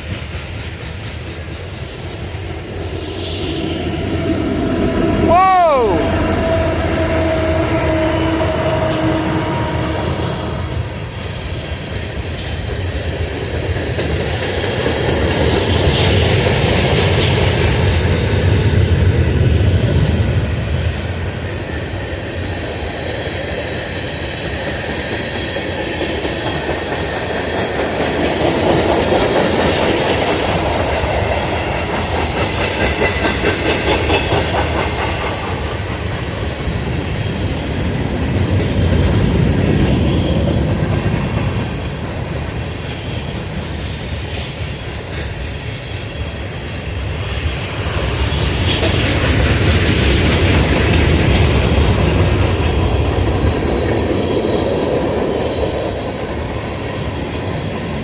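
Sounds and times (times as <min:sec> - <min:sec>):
freight train wheels clacking: 0:00.0 - 0:58.0.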